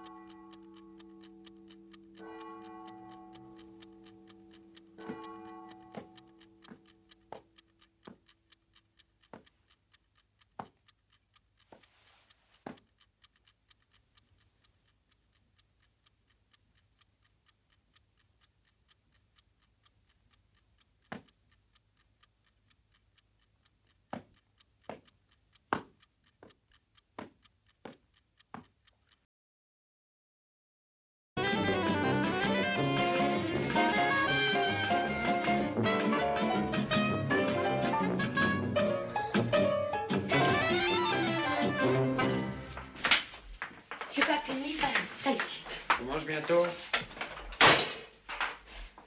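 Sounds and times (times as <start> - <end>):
clock ticking: 0.0 - 29.3, 31.4 - 49.0.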